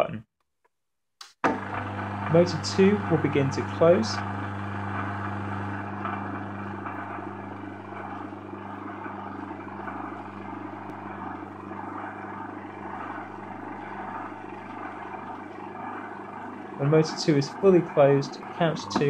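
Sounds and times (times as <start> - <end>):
gate motor humming: 1.4 - 19.0.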